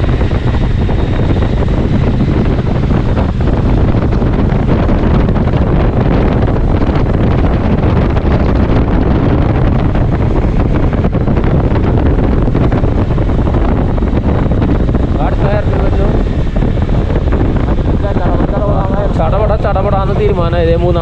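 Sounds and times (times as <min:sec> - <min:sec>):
motorcycle engine running: 0:00.0 - 0:21.0
road noise: 0:00.0 - 0:21.0
wind buffeting microphone: 0:00.0 - 0:21.0.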